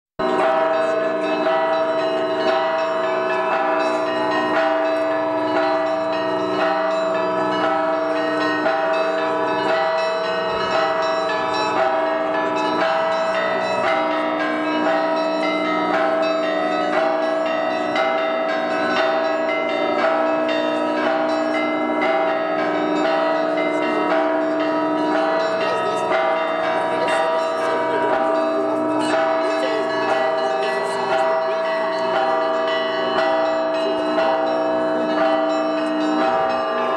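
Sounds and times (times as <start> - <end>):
church bells pealing: 0.2 - 36.9.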